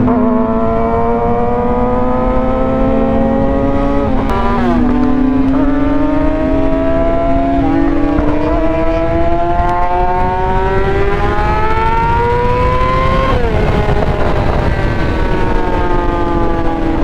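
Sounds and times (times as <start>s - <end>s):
motorcycle engine revving: 0.0s - 17.0s
wind rush: 0.0s - 17.0s.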